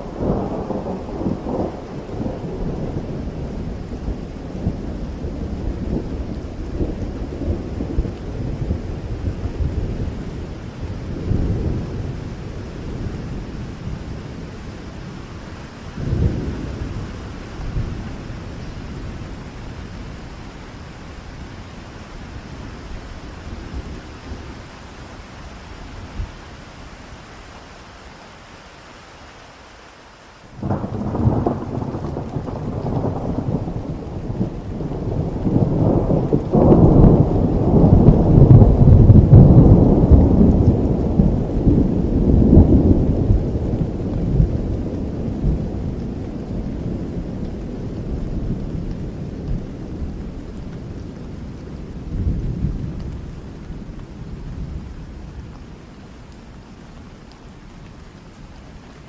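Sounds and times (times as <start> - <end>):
thunder rumbling: 0.0 - 27.0, 30.6 - 58.2
steady rain: 0.0 - 59.0.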